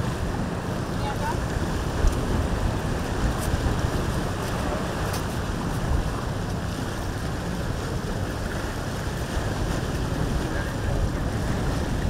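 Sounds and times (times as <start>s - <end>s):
surf washing: 0.0s - 12.0s
wind on microphone: 0.0s - 12.0s.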